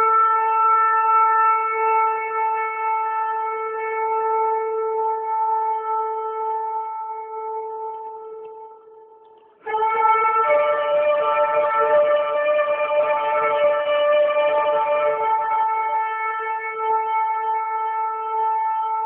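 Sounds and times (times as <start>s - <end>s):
long horn blast: 0.0s - 8.4s, 9.6s - 19.0s.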